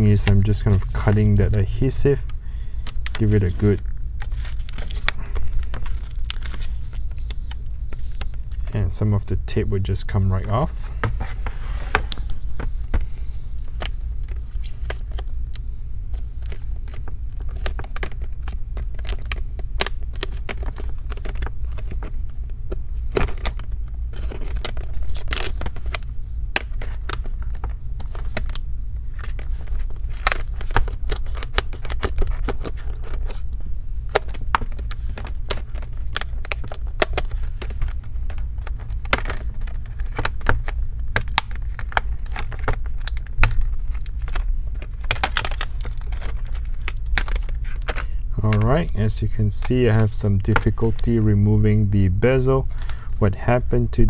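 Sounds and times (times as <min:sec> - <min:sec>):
adhesive tape tearing and crackling: 0:00.0 - 0:08.7, 0:13.6 - 0:22.2, 0:22.9 - 0:51.2
steady low hum: 0:00.0 - 0:54.0.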